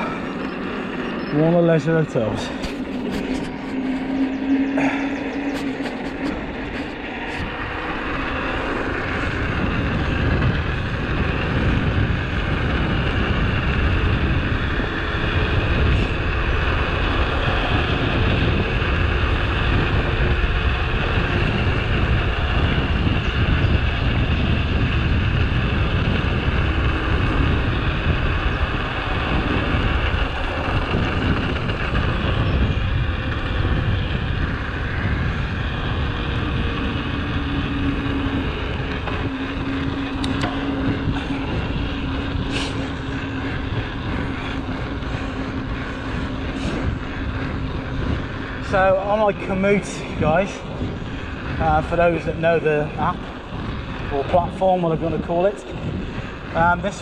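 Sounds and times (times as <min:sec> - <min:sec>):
bike tyres rolling on tarmac: 0:00.0 - 0:57.0
wind rushing over microphone: 0:00.0 - 0:57.0.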